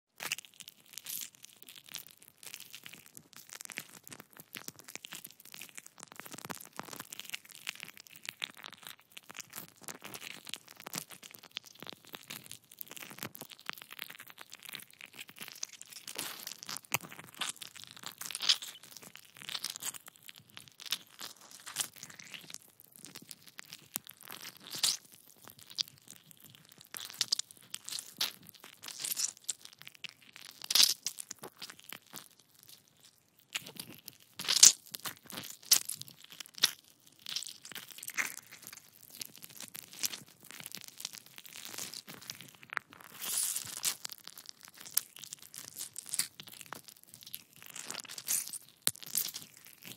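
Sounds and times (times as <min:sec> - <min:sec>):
fleshy squeezing with crackling: 0:00.2 - 0:49.9.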